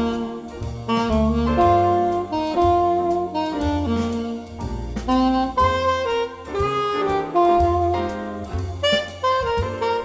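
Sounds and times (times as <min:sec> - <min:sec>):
low bass line: 0:00.0 - 0:10.0
saxophone jazzy melody: 0:00.0 - 0:10.0.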